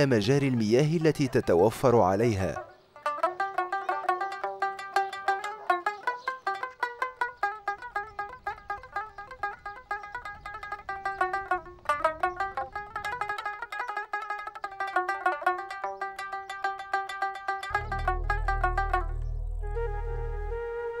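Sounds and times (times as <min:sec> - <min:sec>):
plucked string instrument: 0:01.5 - 0:21.0.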